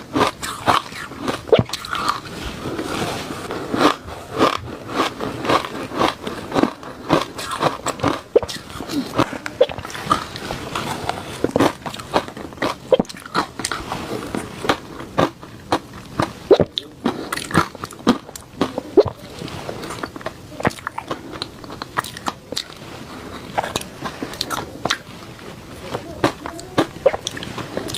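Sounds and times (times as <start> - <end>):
chewing crunchy ice: 0.0 - 27.9.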